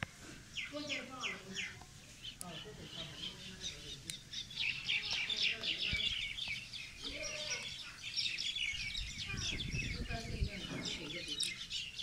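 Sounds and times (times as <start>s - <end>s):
parakeets chirping: 0.5s - 12.0s.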